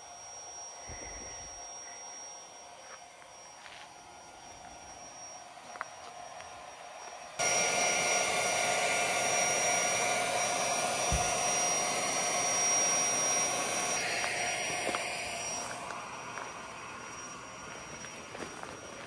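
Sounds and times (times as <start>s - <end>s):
electric air pump whirring: 0.0s - 19.0s.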